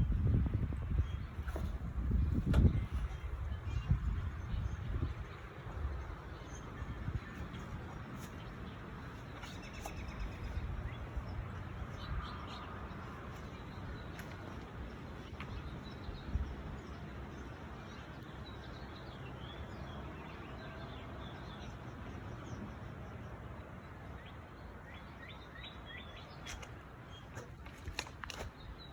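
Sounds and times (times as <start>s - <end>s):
outdoor background noise: 0.0s - 28.9s.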